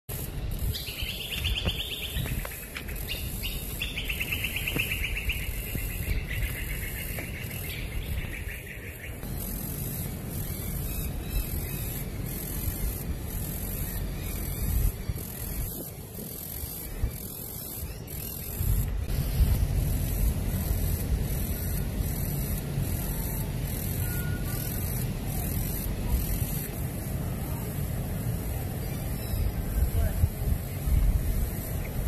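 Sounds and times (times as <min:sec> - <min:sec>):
steady low rumble: 0:00.2 - 0:32.0.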